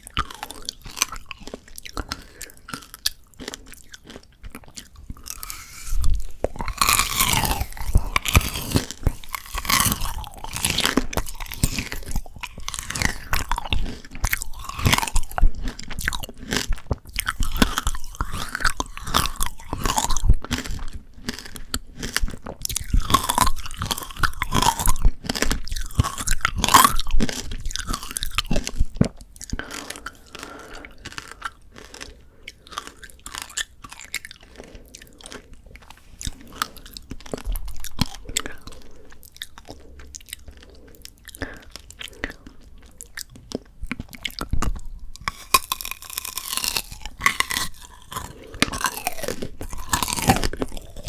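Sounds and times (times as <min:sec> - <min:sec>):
crunching hard candy: 0:00.0 - 0:51.0.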